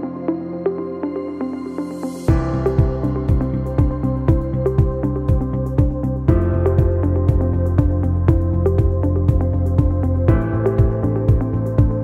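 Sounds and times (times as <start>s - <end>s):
electronic instrumental music: 0.0s - 12.0s.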